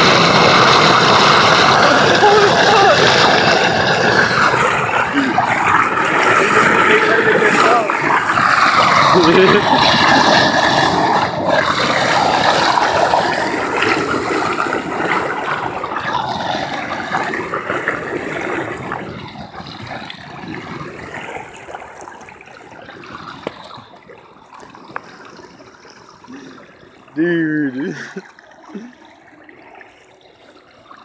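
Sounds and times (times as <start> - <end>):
floodwater rushing and splashing: 0.0 - 31.0.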